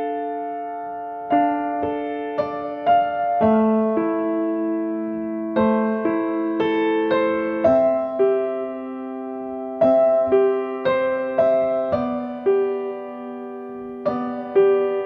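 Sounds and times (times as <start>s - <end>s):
slow keyboard music: 0.0s - 15.0s.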